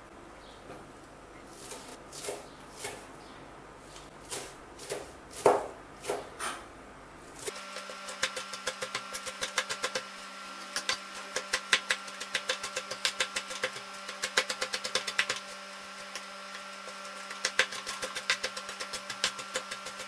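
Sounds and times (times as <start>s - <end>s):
knife chopping on cutting board: 1.6s - 3.1s, 4.2s - 6.6s, 7.4s - 20.0s.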